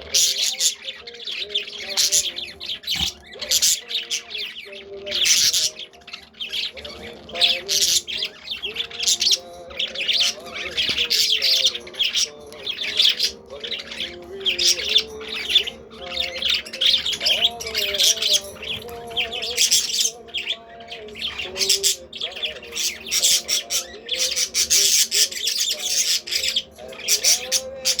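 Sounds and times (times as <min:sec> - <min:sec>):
budgies chattering and squawking: 0:00.0 - 0:28.0.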